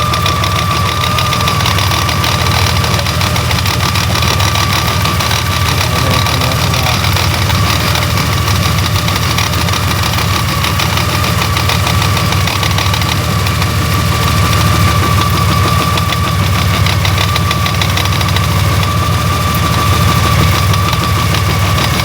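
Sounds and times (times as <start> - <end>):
fast engine knocking: 0.0 - 22.0
motorcycle engine idling: 0.0 - 22.0.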